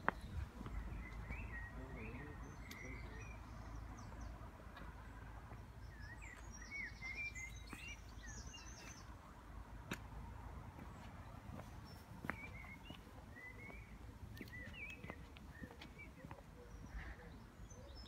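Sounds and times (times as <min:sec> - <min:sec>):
small birds chirping: 0:00.0 - 0:10.1, 0:10.7 - 0:18.0.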